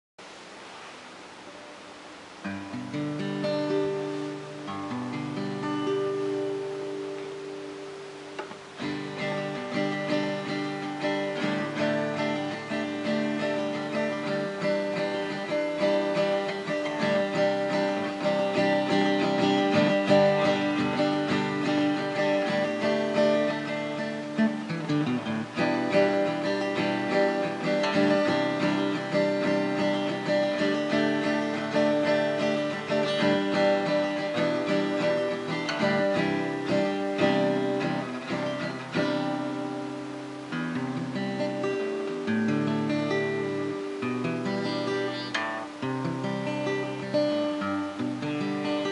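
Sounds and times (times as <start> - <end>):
acoustic guitar strumming: 1.1 - 48.9.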